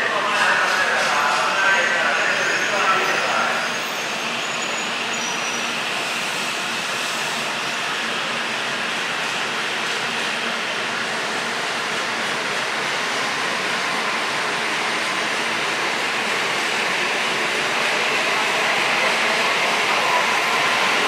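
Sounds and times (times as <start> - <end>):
high-speed train rushing: 0.0 - 21.0.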